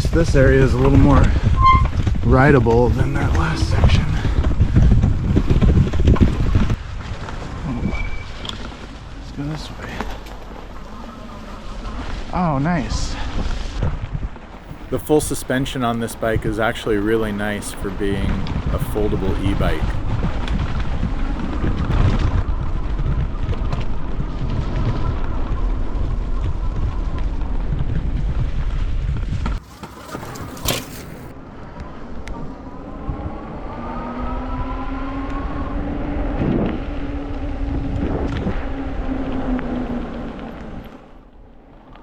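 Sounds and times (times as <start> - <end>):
wind rumble on microphone: 0.0 - 15.0, 18.2 - 29.6, 31.4 - 42.0.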